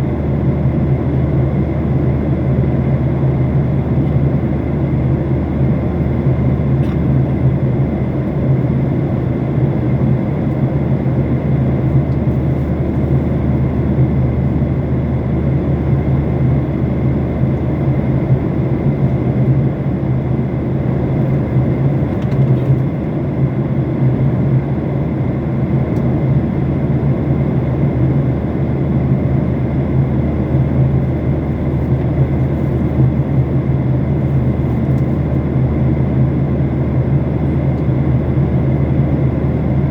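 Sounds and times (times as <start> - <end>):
airliner engine and airflow hum: 0.0 - 39.9.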